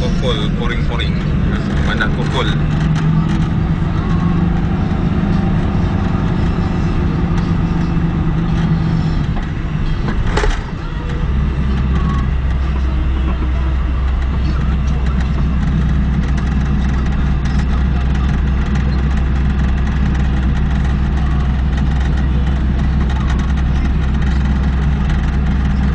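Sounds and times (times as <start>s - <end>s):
car engine and road noise: 0.0s - 25.9s.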